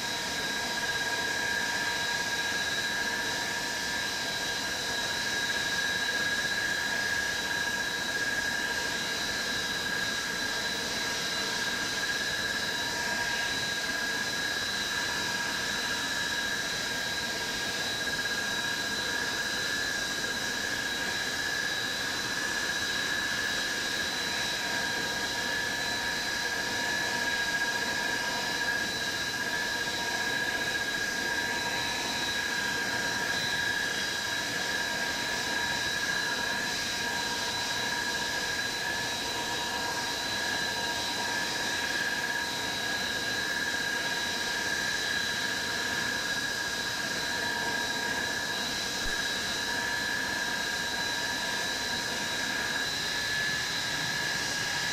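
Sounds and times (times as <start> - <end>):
jet engines running with high whine: 0.0 - 54.9.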